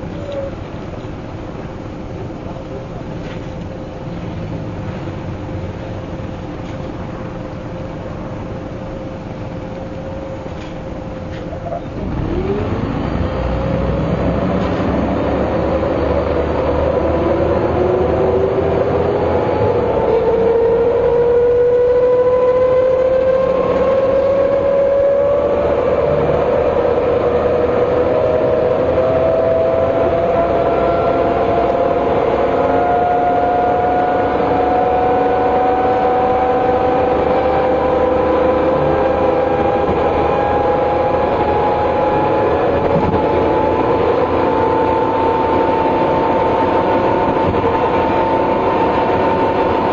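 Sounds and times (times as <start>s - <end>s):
diesel bus engine running: 0.0s - 49.9s
differential whine: 0.0s - 49.9s.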